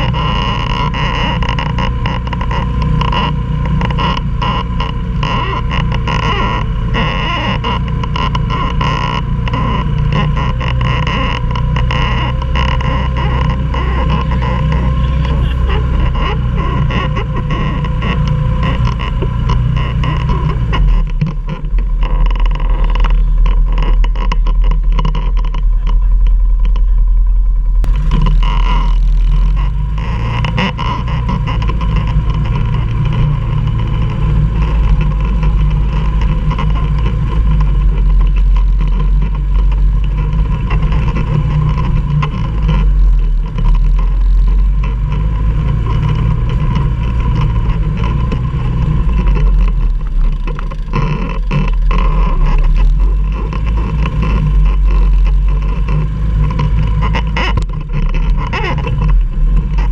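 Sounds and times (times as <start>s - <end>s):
knocks and rattles: 0.0s - 59.9s
quad engine running: 0.0s - 59.9s.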